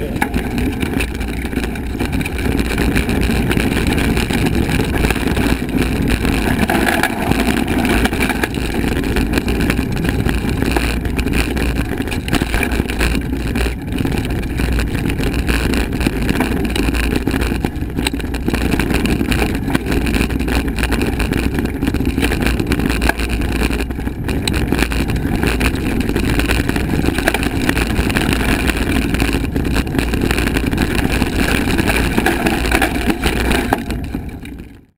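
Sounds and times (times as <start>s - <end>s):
bike tyres rolling on dirt: 0.0s - 34.9s
small knocks from rough ground: 0.0s - 34.9s
wind buffeting microphone: 0.0s - 34.9s.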